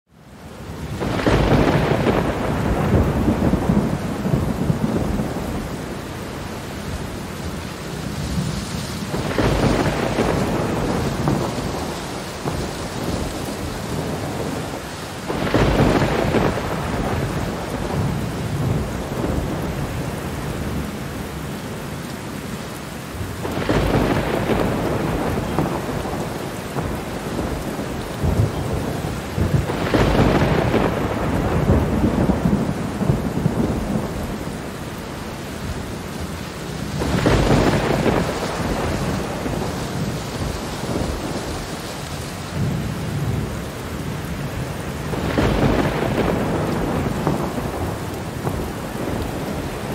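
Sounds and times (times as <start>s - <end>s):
steady rain: 0.1s - 49.9s
rolling thunder: 0.8s - 6.6s, 8.0s - 20.9s, 23.2s - 49.9s.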